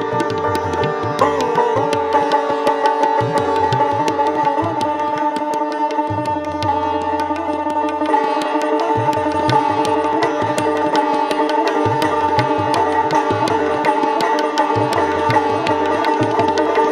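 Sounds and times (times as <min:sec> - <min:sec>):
sitar plucked notes: 0:00.0 - 0:16.9
tabla strokes: 0:00.0 - 0:16.9.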